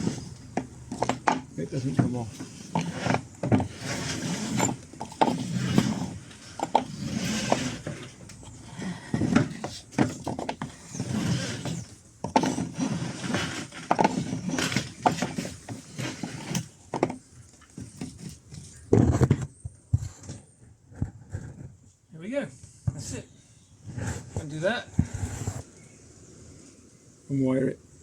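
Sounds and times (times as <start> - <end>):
hose scraping against hull: 0.0 - 21.8, 23.8 - 25.8.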